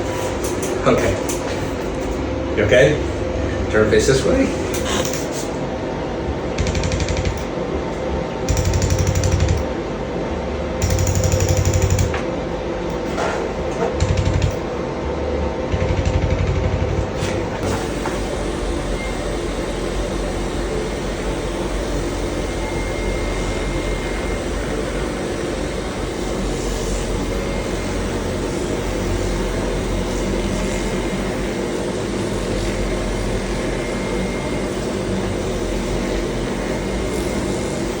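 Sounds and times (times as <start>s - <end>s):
machine mechanical drone: 0.0s - 38.0s.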